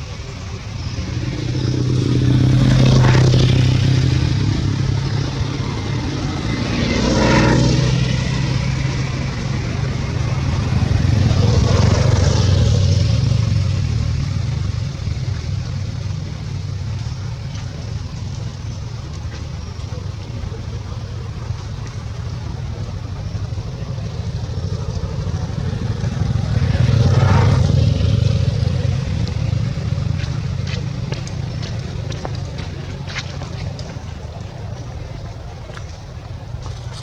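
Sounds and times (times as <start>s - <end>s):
motor engine humming: 0.0s - 37.0s.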